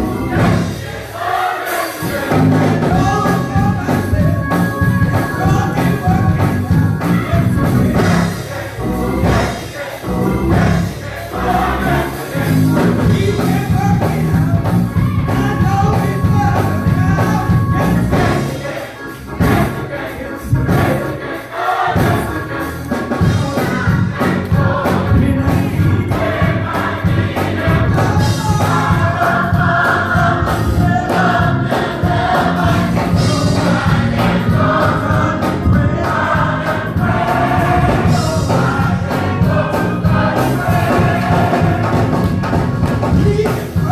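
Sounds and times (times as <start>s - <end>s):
gospel choir singing: 0.0s - 43.9s
rhythmic band playing: 0.0s - 43.9s.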